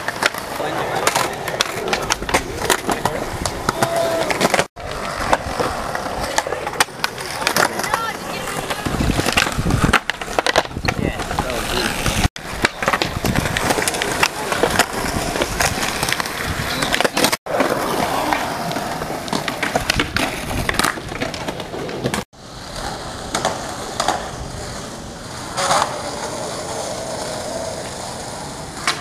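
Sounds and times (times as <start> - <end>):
skateboard popping and landing: 0.0 - 29.0
skateboard wheels rolling on concrete: 0.0 - 29.0.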